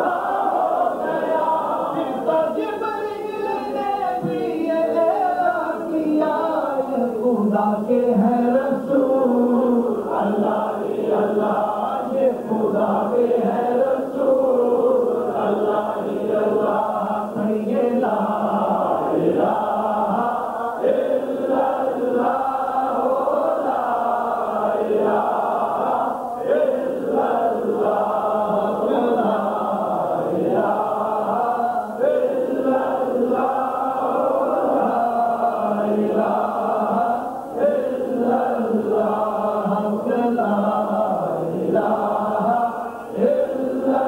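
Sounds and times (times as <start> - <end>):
man singing devotional song: 1.0 - 24.4, 25.2 - 44.0.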